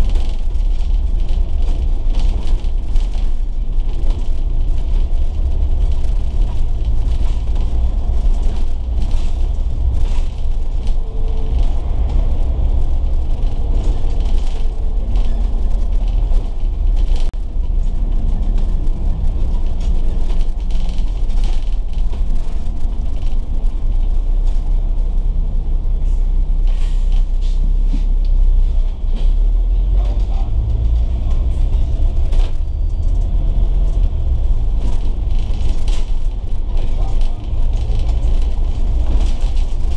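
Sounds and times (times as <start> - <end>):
bus diesel engine rumble: 0.0 - 39.9
road noise: 0.0 - 39.9.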